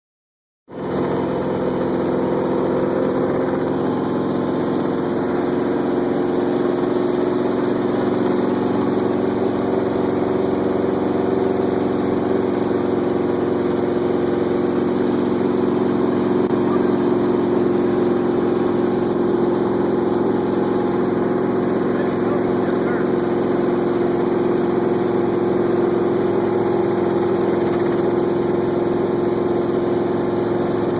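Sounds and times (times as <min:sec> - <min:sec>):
helicopter engine and rotor drone: 0:00.7 - 0:30.9.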